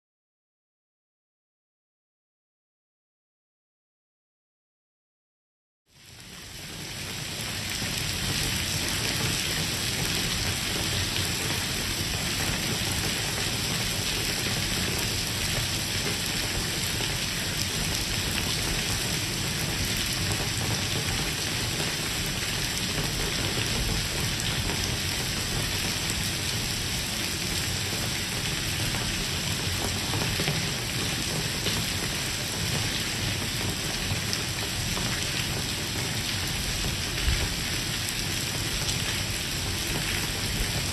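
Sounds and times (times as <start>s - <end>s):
heavy rain on stone paving: 5.9s - 40.9s.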